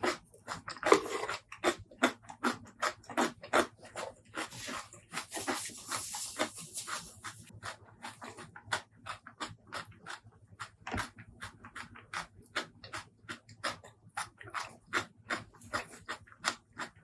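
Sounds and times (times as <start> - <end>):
wet chewing and mouth smacks: 0.0 - 17.0.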